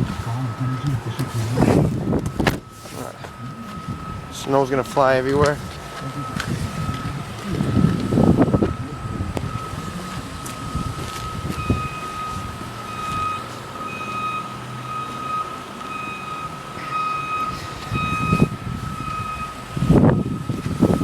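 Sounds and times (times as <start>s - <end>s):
steady high tone: 0.0s - 20.3s
vehicle warning chime beeping: 0.0s - 21.0s.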